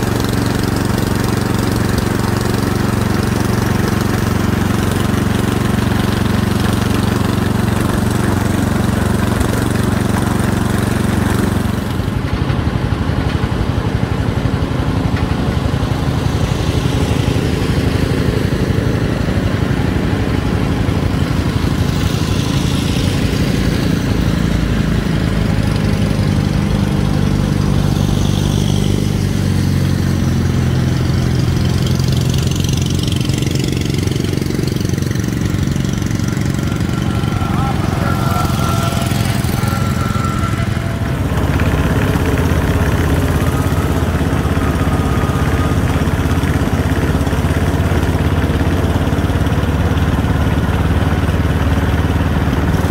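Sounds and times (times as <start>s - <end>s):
approaching tractor engines: 0.0s - 52.9s
garden tractor engine running: 0.0s - 52.9s.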